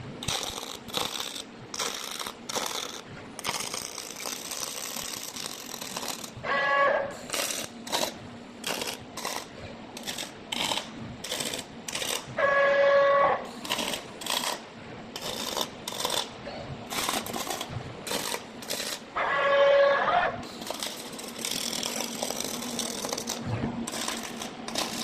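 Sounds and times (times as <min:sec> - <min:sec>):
crackling welding arc: 0:00.0 - 0:25.0.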